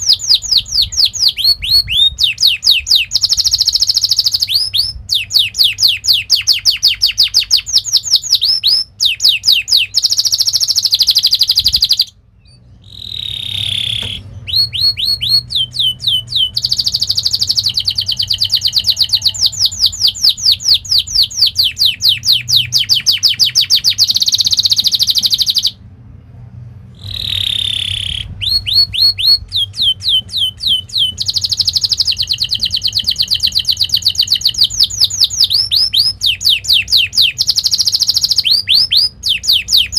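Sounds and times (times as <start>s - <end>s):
canary singing: 0.0s - 25.9s, 26.9s - 39.9s.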